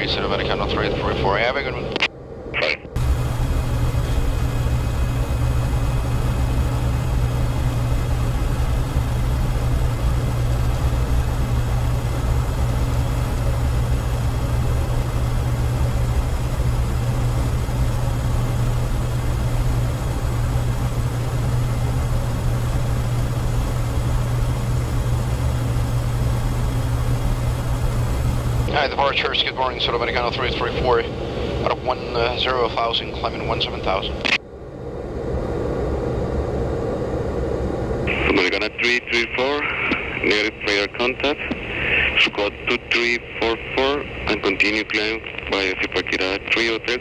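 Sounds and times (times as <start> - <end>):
jet engines droning: 0.0 - 47.0
air rushing over cockpit: 2.3 - 29.0, 29.9 - 47.0.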